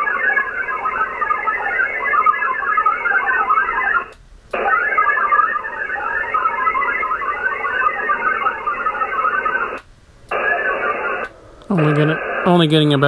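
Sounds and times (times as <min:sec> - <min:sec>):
digital modem warble: 0:00.0 - 0:13.0.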